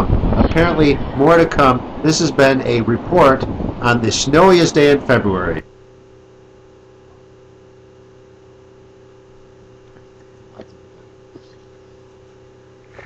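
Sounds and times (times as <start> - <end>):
faint hum with hiss: 0.0 - 13.0.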